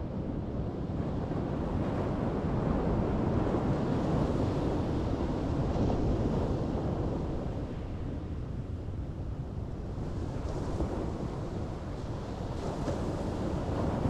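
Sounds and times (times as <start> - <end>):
wind rumbling on microphone: 0.0 - 14.0
ocean surf on sandy beach: 0.1 - 14.0.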